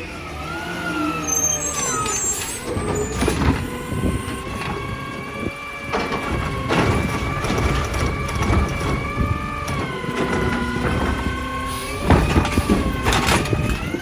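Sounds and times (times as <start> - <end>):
garbage truck machinery whining: 0.0 - 14.0.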